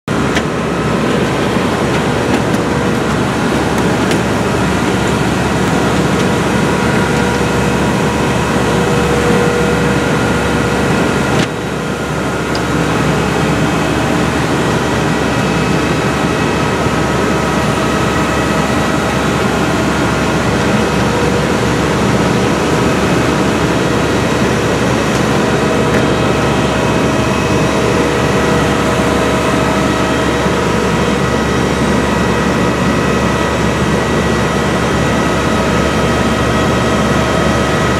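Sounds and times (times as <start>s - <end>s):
airport ramp machinery whine: 0.1s - 37.9s.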